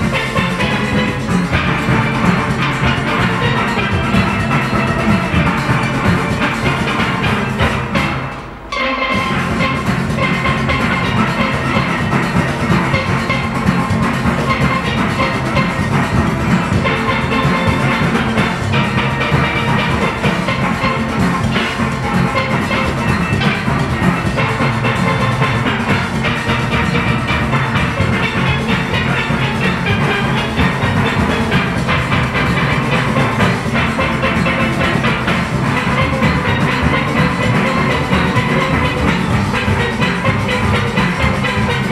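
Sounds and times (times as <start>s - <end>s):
drum kit and percussion beat: 0.0s - 41.9s
steelpans ringing: 0.0s - 41.9s.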